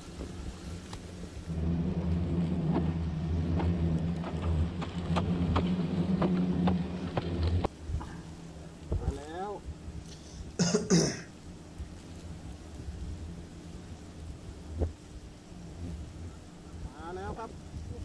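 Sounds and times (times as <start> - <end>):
hornets buzzing loudly: 0.7 - 18.0.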